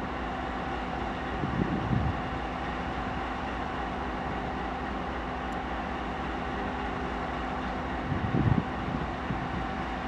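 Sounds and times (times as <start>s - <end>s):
distant locomotive idling: 0.0s - 10.0s.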